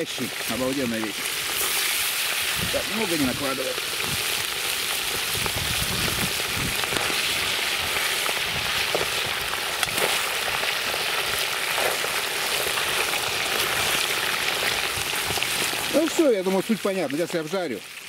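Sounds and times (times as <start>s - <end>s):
fish deep-frying in hot oil: 0.0s - 18.0s.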